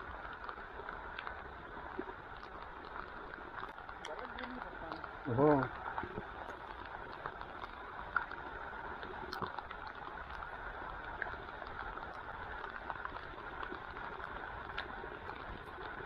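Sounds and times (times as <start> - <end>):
creek water rushing: 0.0 - 16.0
faint ticks: 0.0 - 16.0.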